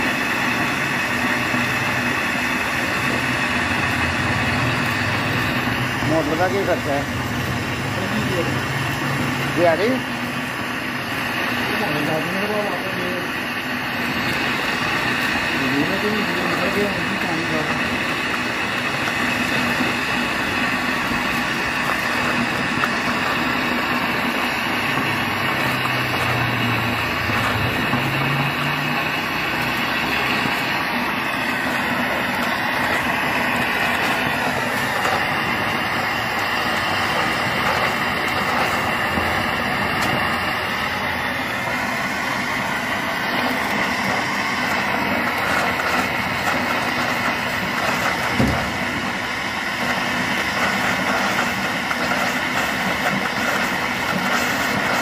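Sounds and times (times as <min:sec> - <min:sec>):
water and gas spraying from pipe: 0:00.0 - 0:55.0.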